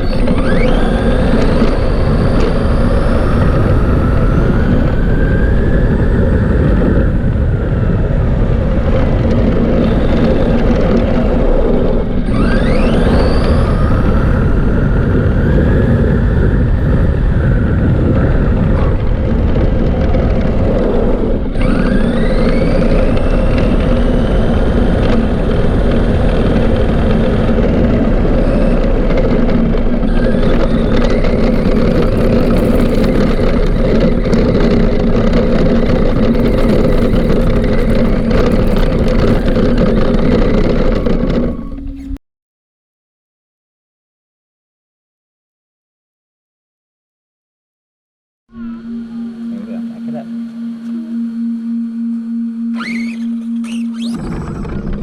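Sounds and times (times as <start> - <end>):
electric motor whine: 0.0 - 42.2, 48.5 - 55.0.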